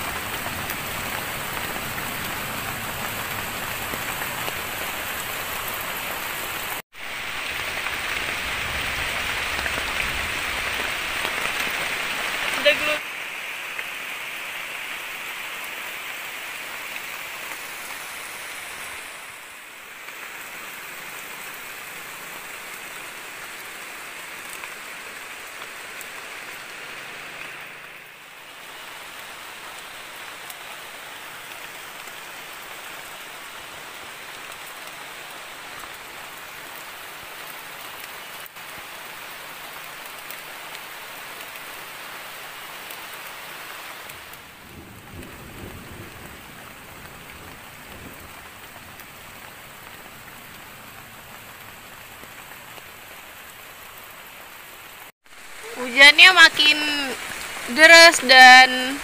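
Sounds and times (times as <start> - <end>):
heavy rain on foliage: 0.0 - 59.0.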